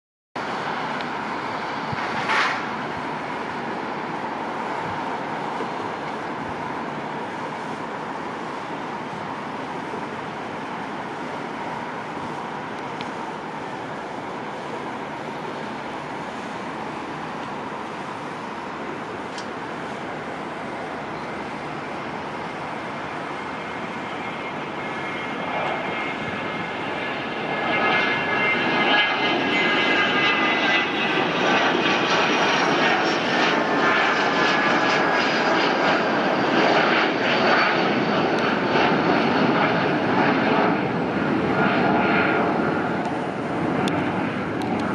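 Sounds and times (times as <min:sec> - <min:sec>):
high whining engine tones: 0:00.4 - 0:44.9
jet engines rushing: 0:00.4 - 0:44.9.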